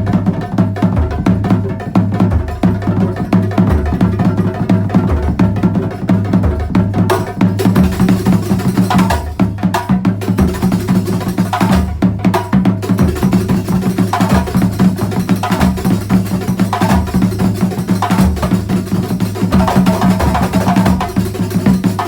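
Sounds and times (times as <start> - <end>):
frame drums playing fast rhythm: 0.0 - 22.0.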